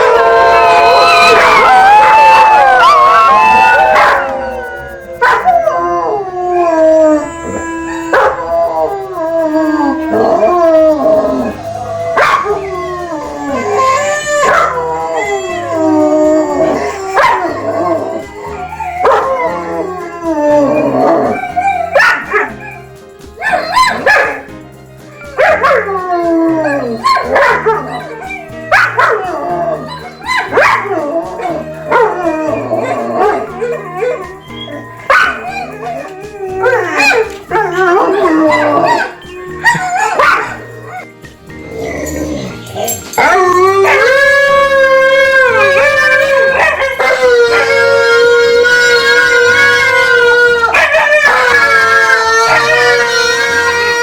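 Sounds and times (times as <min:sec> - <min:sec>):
background music with bass line: 0:00.0 - 0:54.0
dogs howling: 0:00.0 - 0:54.0
dogs yipping: 0:00.0 - 0:54.0.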